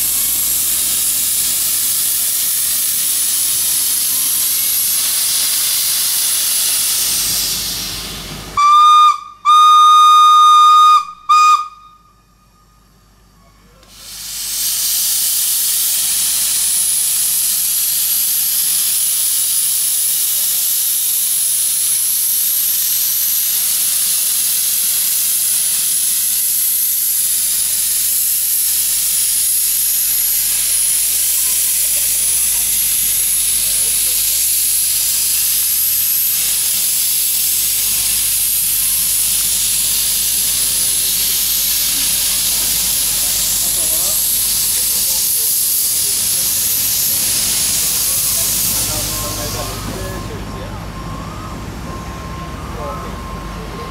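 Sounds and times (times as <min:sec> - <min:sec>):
steam locomotive hissing steam: 0:00.0 - 0:12.1, 0:13.7 - 0:53.9.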